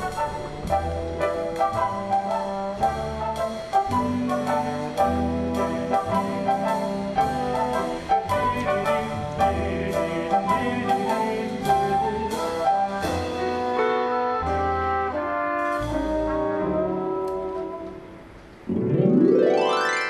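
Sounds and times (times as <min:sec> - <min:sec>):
brass band music: 0:00.0 - 0:20.0.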